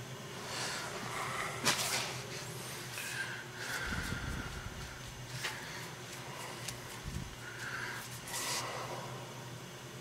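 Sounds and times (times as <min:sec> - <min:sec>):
boiler humming: 0:00.0 - 0:10.0.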